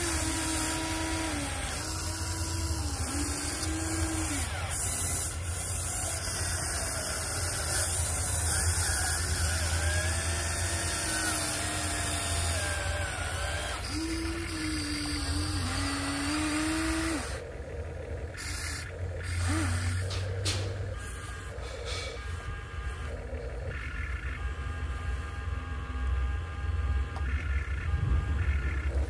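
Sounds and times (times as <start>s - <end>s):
steady low hum: 0.0s - 29.0s
toy excavator motors whining: 0.0s - 29.0s.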